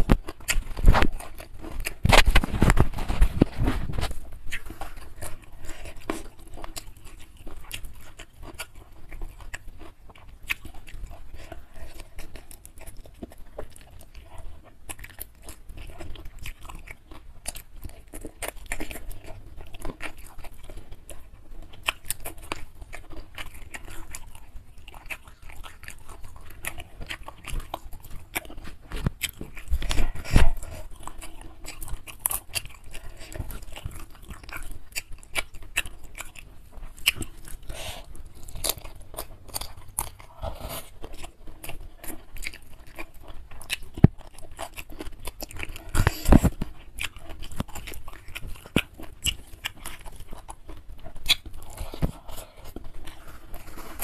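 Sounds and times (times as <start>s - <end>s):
chewing with wet clicks: 0.0s - 54.0s
food crunching: 0.0s - 54.0s.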